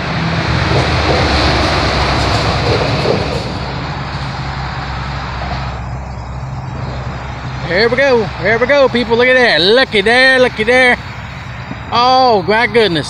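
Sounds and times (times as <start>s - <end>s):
traffic rumble and tyre hiss: 0.0s - 13.0s.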